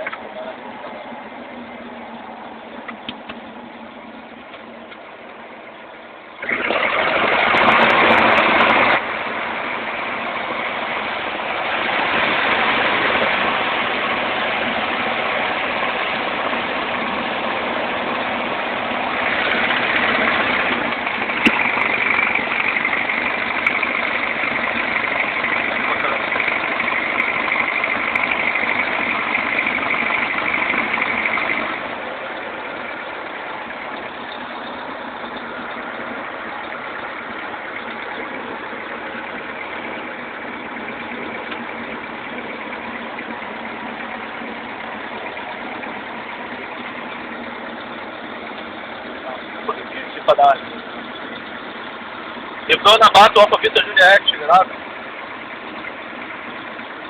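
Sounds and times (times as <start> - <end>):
small plane engine and propeller: 0.0 - 57.0.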